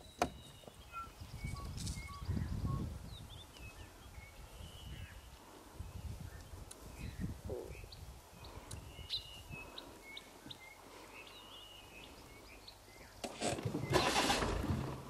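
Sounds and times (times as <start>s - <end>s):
birds chirping and whistling: 0.0s - 14.4s.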